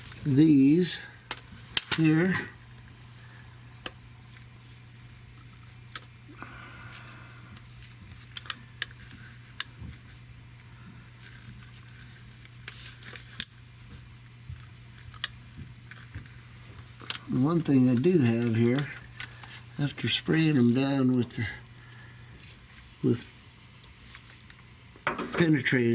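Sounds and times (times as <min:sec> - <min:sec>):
low electrical hum: 0:00.0 - 0:25.9.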